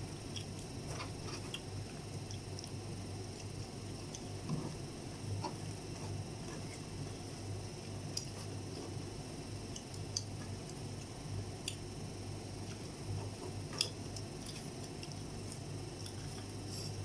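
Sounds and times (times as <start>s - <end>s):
crunching of eating fried chicken: 0.0s - 17.0s
steady low hum: 0.0s - 17.0s.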